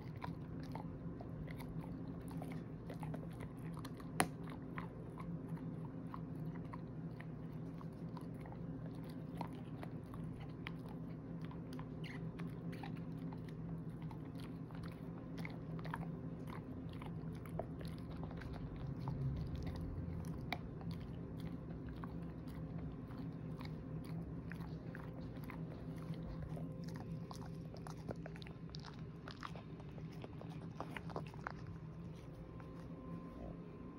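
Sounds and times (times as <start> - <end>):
dog gnawing on a hard chew: 0.0 - 33.5.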